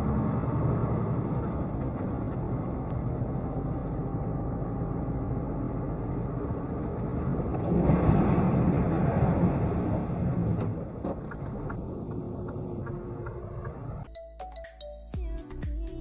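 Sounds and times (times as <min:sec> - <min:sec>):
vehicle engine and road noise: 0:00.0 - 0:14.2.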